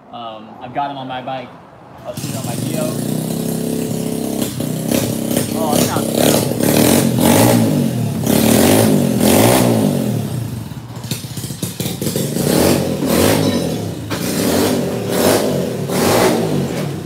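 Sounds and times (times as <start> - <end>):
scooter engine revving: 2.0 - 17.0.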